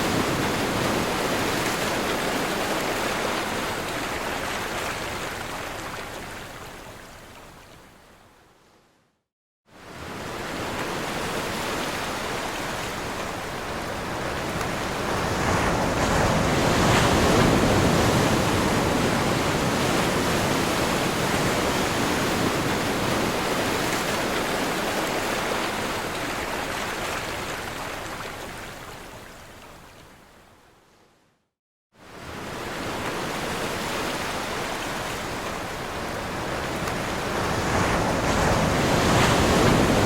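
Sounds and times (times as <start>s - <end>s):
ocean waves crashing on shore: 0.0s - 6.6s, 9.8s - 29.4s, 32.0s - 40.0s.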